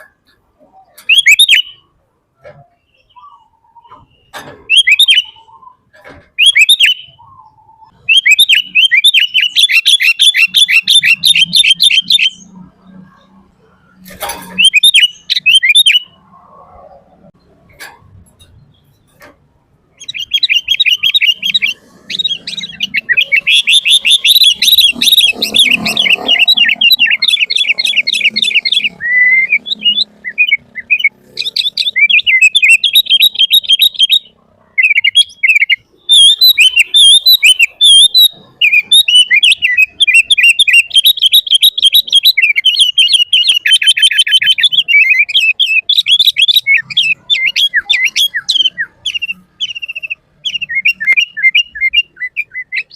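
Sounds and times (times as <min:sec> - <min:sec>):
bird singing rapid high chirps: 0:00.0 - 0:01.9, 0:02.8 - 0:19.2, 0:19.9 - 0:52.9.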